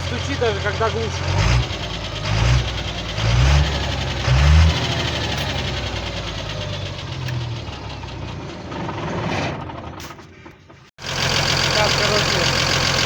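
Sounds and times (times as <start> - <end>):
diesel engine revving and idling: 0.0 - 13.0
engine knock: 0.0 - 13.0.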